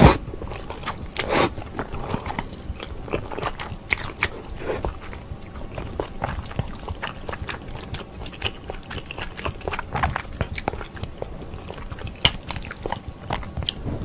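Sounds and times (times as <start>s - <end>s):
mouth chewing and smacking: 0.0s - 13.9s.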